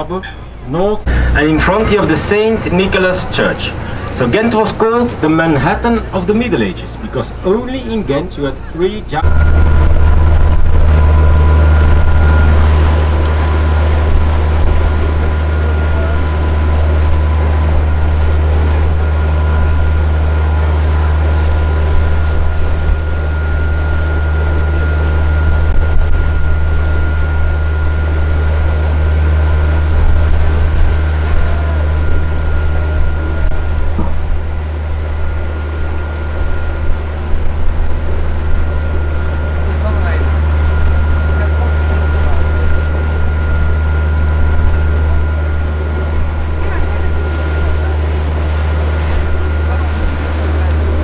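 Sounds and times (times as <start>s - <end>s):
boat motor running: 0.0s - 51.0s.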